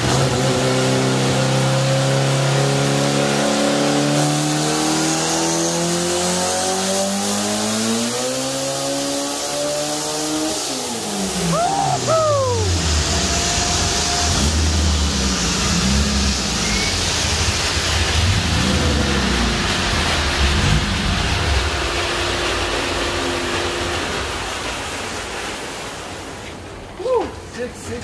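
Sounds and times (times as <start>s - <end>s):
engine running under load: 0.0s - 26.9s.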